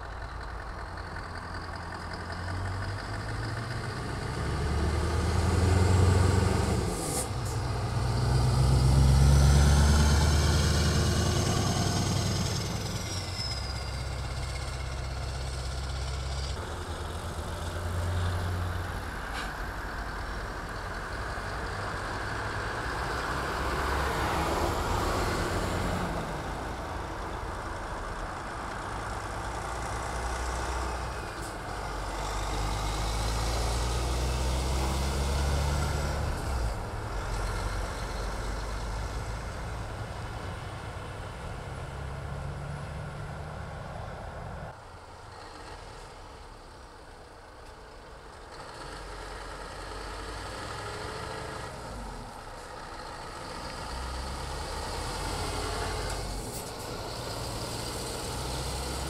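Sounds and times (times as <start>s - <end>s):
trucks driving past: 0.0s - 59.0s.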